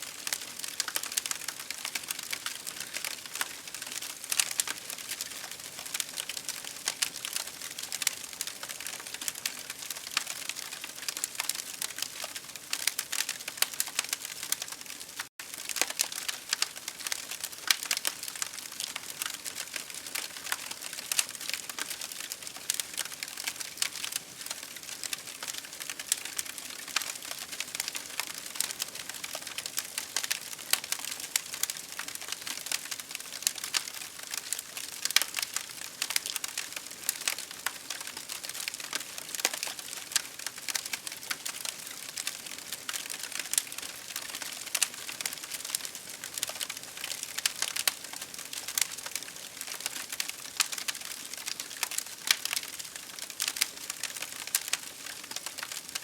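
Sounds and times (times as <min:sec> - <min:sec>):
campfire crackling and popping: 0:00.1 - 0:56.0.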